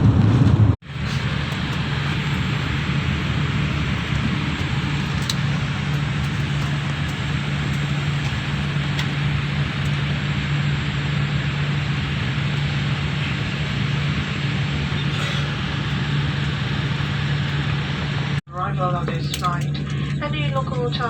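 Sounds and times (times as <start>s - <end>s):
airliner engine and airflow rush: 0.0s - 21.0s
constant low hum: 0.0s - 21.0s.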